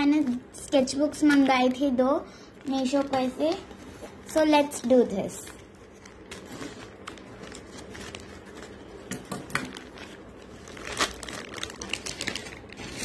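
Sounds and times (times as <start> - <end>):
plastic crinkling: 2.6 - 13.0.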